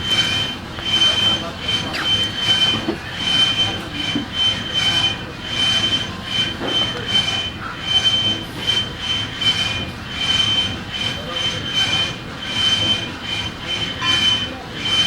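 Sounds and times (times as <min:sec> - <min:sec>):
machine metallic squeal: 0:00.0 - 0:15.0.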